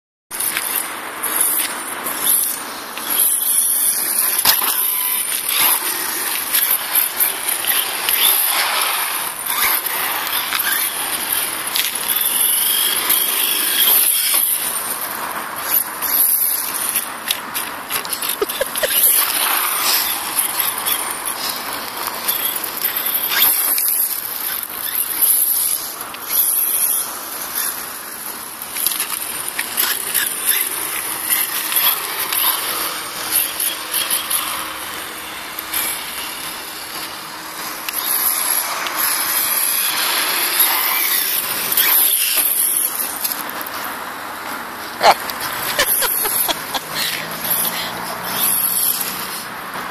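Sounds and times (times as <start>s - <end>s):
rc truck motor whining: 0.4s - 49.9s.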